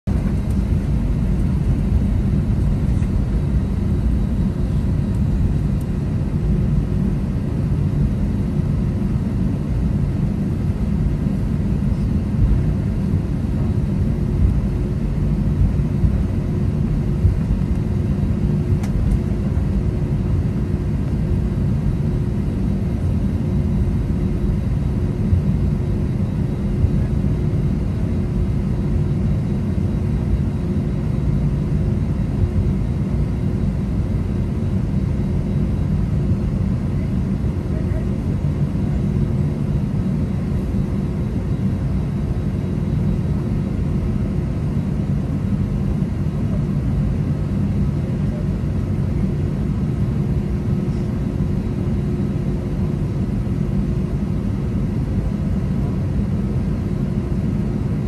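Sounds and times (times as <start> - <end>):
jet engines low rumble: 0.0 - 58.0.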